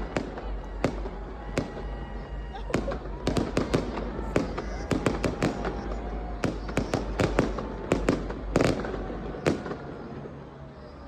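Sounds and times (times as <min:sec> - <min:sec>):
firecrackers banging and popping: 0:00.0 - 0:10.4.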